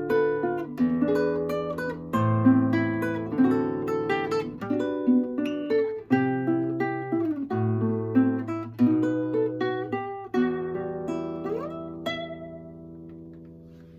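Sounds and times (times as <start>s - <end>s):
fingerstyle classical guitar: 0.0s - 13.9s.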